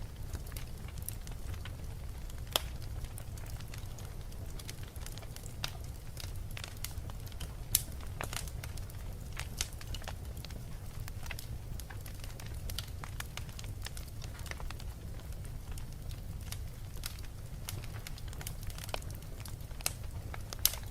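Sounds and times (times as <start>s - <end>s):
fire crackles and pops: 0.0s - 20.9s
fire rumbling: 0.0s - 20.9s.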